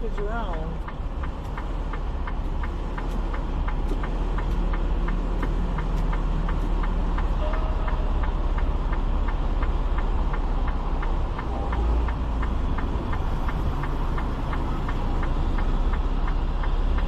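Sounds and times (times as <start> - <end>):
diesel engine rumbling: 0.0 - 17.0
light ticking: 0.0 - 17.0.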